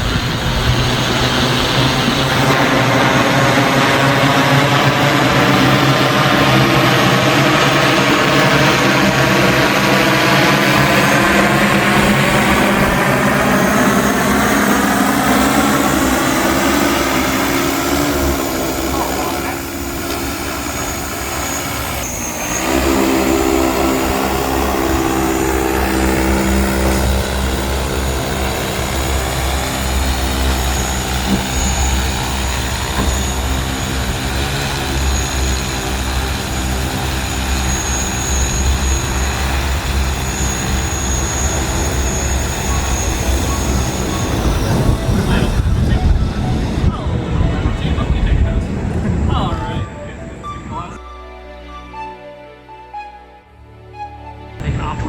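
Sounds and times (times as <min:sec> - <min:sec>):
drone propellers droning: 0:00.0 - 0:55.0.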